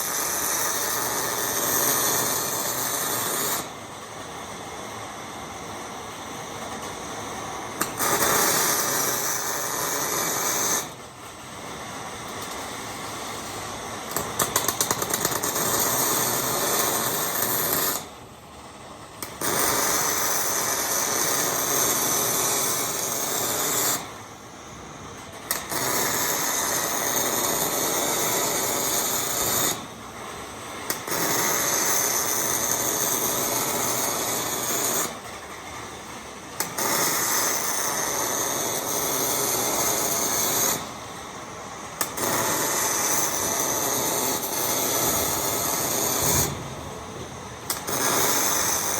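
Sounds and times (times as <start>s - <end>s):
welder arc crackling and hissing: 0.0s - 48.9s.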